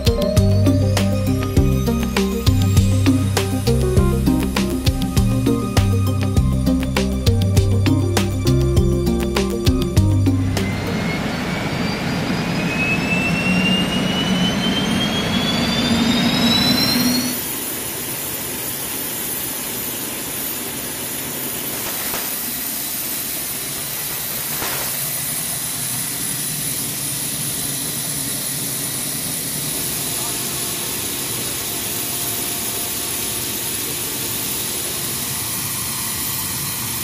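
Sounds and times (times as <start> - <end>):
jet engine turbine whine: 0.0 - 37.0.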